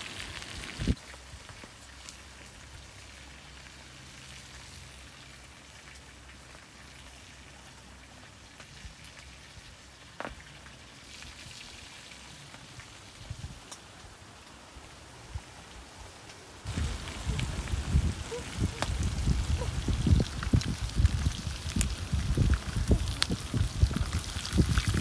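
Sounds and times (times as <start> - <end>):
outdoor hiss: 0.0 - 22.1.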